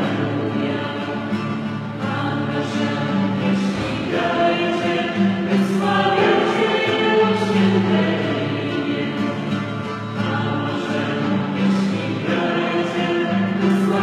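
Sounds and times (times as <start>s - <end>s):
group singing worship song: 0.0s - 14.0s.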